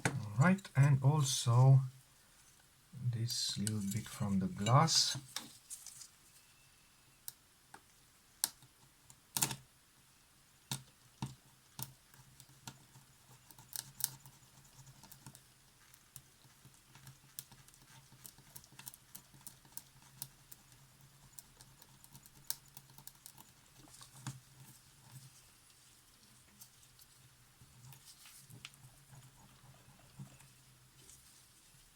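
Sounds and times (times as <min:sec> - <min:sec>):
faint low hum: 0:00.0 - 0:08.3, 0:09.8 - 0:31.9.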